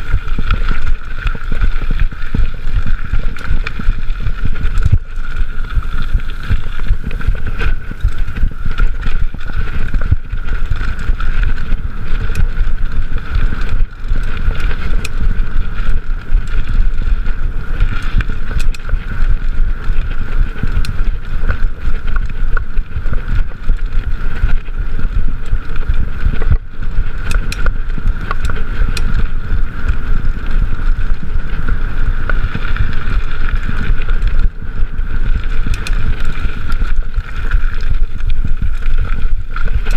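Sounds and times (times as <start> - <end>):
bike clicks and rattles: 0.0 - 39.9
bike tyre noise: 0.0 - 39.9
wind rumble on microphone: 0.0 - 39.9.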